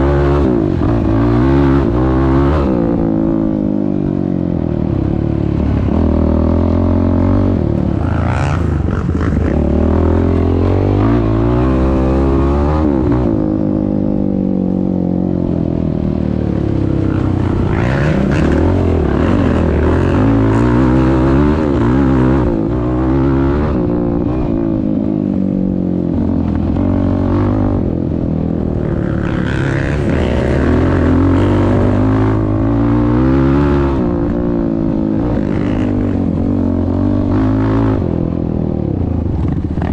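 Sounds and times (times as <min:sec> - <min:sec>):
quad engine revving: 0:00.0 - 0:04.0, 0:05.2 - 0:14.3, 0:16.5 - 0:24.9, 0:26.7 - 0:38.4.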